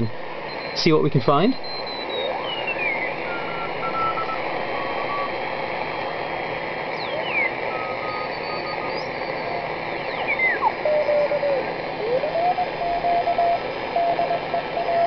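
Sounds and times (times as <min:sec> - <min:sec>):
whistling morse code beat notes: 0:00.0 - 0:05.7, 0:06.9 - 0:15.0
radio receiver hiss: 0:00.0 - 0:15.0.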